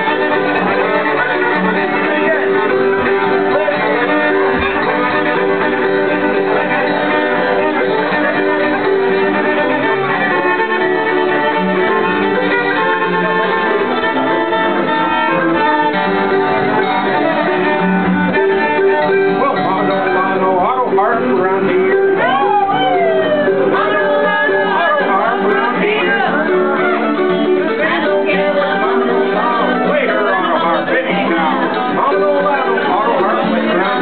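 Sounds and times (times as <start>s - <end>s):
fiddle playing lead: 0.0s - 34.0s
strummed acoustic guitars: 0.0s - 34.0s.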